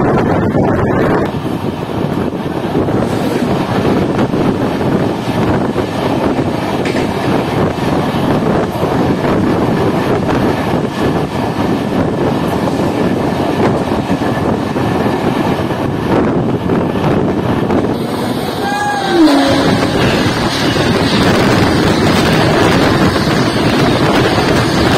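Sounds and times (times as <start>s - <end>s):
rush of wind: 0.0s - 24.9s
train wheels on rails: 0.0s - 24.9s.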